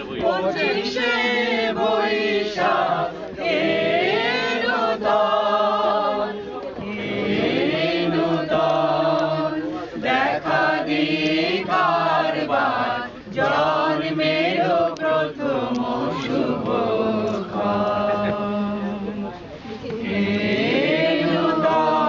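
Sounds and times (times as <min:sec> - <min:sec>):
men and women singing in chorus: 0:00.0 - 0:22.0.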